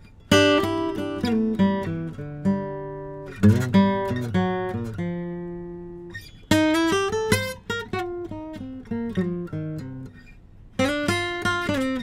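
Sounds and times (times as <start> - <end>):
acoustic guitar chords: 0.0 - 12.0
picked guitar notes: 0.0 - 12.0.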